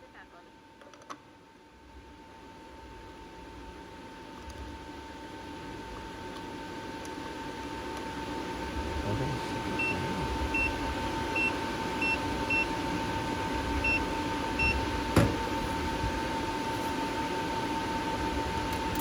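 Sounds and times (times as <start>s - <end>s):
welding machine electrical hum: 0.0s - 19.0s.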